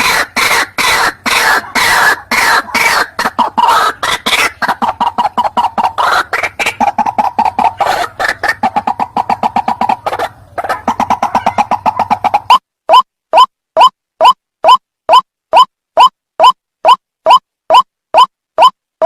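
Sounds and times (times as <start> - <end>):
waterhen calling: 0.0 - 16.6.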